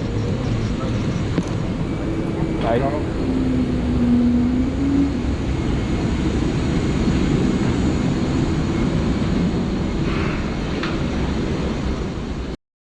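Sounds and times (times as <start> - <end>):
aircraft noise rumble: 0.0 - 12.6.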